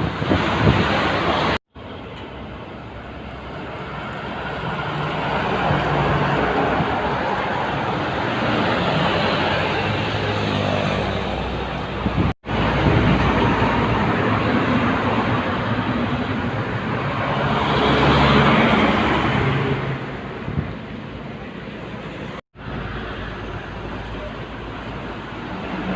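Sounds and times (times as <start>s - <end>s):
heavy trucks passing: 0.0s - 25.9s
tyre and road noise: 0.0s - 25.9s.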